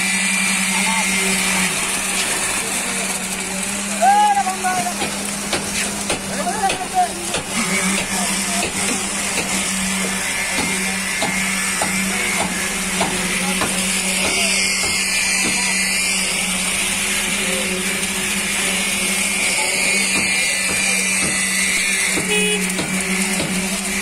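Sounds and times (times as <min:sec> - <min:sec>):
construction machinery humming: 0:00.0 - 0:24.0.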